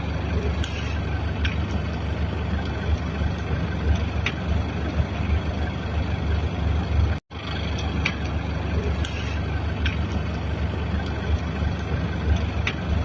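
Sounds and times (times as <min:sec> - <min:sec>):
low rumble of road vehicles: 0:00.0 - 0:13.0.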